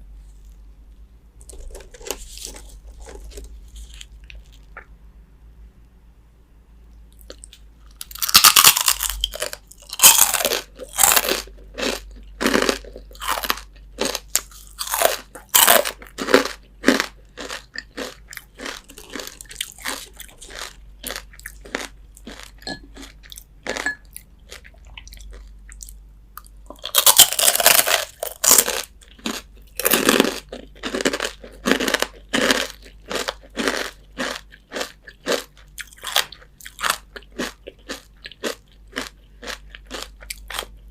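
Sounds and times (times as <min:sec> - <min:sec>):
rhythmic crunchy chewing: 0:01.4 - 0:04.9, 0:07.1 - 0:40.9
crunchy bites of fried chicken: 0:07.2 - 0:23.9, 0:24.5 - 0:40.9.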